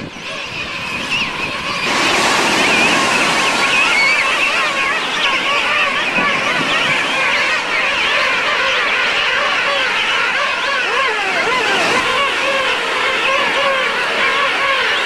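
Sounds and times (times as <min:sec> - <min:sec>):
penguins calling: 0:00.0 - 0:15.0
surf washing: 0:00.0 - 0:15.0.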